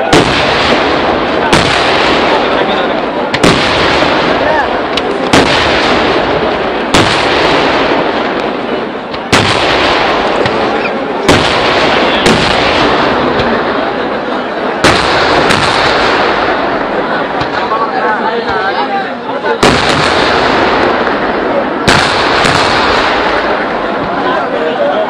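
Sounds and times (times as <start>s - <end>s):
sharp firework bangs: 0.0s - 18.6s, 19.5s - 24.5s
fireworks barrage: 0.0s - 25.0s.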